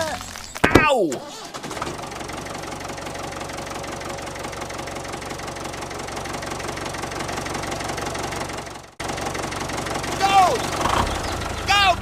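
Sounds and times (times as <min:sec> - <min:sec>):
small engine running: 0:01.3 - 0:12.0.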